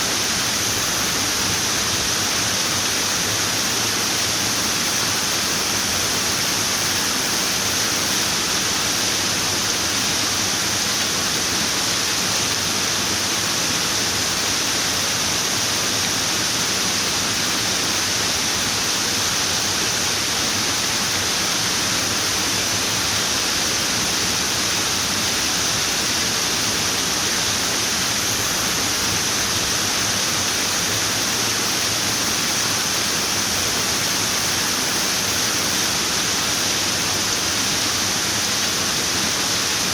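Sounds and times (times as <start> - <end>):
running water hissing: 0.0 - 39.9.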